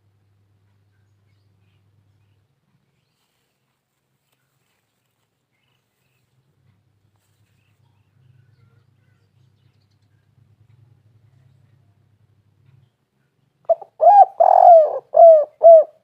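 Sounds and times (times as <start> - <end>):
low steady hum: 0.0 - 16.0
small birds chirping: 0.7 - 16.0.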